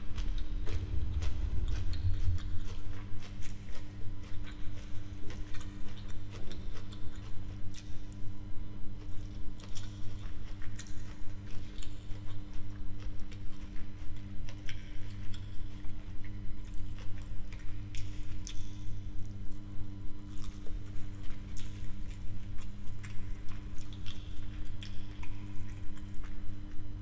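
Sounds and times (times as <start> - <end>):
wet chewing mouth sounds: 0.0 - 8.3, 9.0 - 26.9
steady low hum: 0.0 - 27.0.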